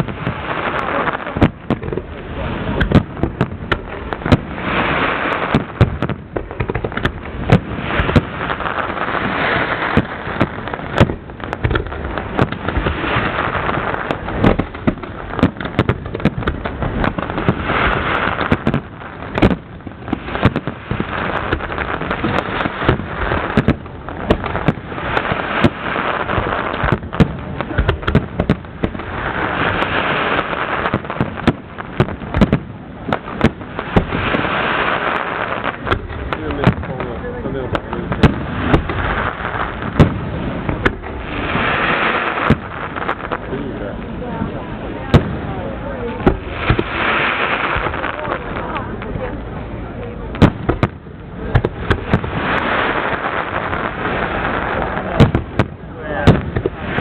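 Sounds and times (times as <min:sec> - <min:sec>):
firework bangs: 0:00.0 - 0:57.0
firework crackling: 0:00.0 - 0:57.0.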